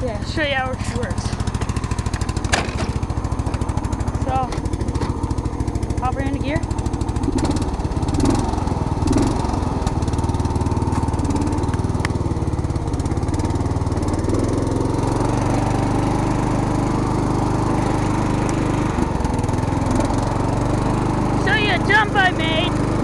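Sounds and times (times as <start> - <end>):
small tractor engine running: 0.0 - 23.0.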